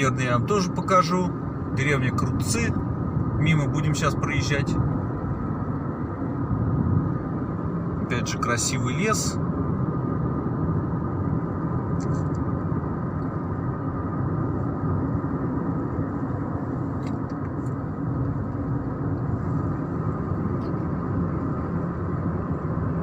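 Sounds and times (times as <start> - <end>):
car road noise from cabin: 0.0 - 23.0.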